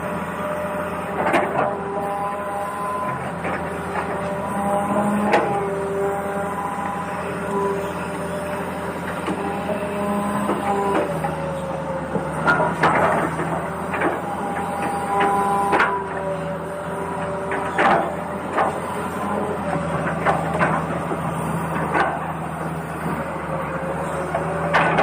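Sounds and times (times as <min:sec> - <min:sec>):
small electric motors whining: 0:00.0 - 0:25.0.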